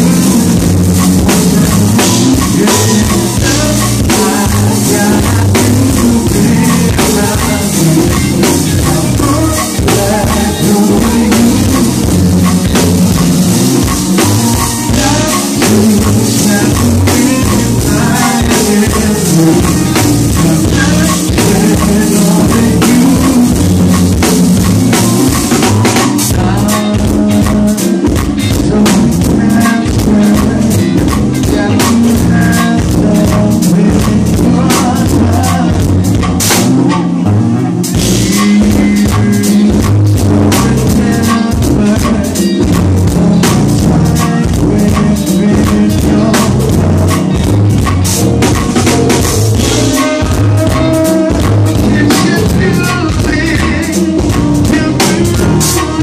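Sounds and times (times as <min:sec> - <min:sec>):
drum kit: 0:00.0 - 0:56.0
live band playing: 0:00.0 - 0:56.0.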